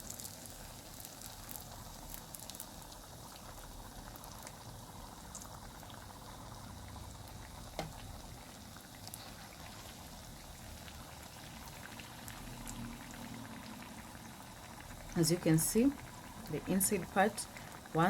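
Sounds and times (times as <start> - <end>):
deep-frying oil sizzling: 0.0 - 18.0.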